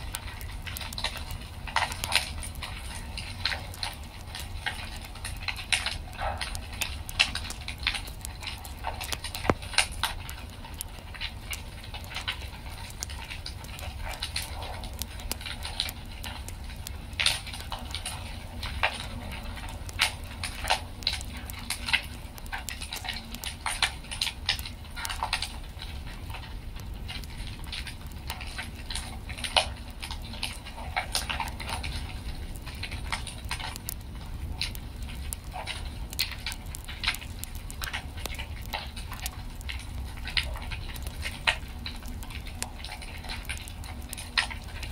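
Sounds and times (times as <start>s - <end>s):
fire pops and snaps: 0.0s - 44.9s
wood fire crackling: 0.0s - 44.9s.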